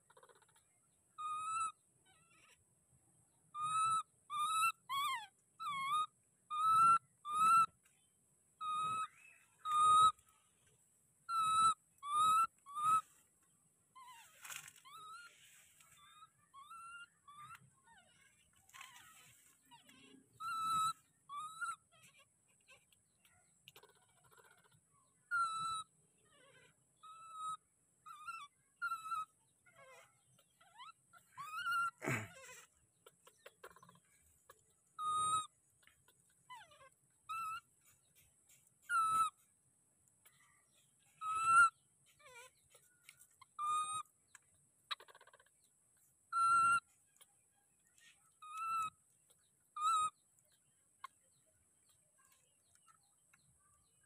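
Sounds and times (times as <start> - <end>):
baby monkey crying: 0.0 - 2.6, 3.5 - 7.9, 8.6 - 10.3, 11.2 - 13.3, 13.9 - 39.6, 40.2 - 51.3.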